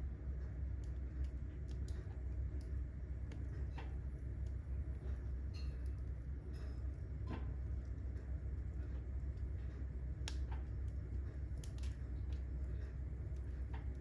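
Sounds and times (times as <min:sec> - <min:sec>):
steady low hum: 0:00.0 - 0:14.0
wood fire crackling and popping: 0:00.0 - 0:14.0.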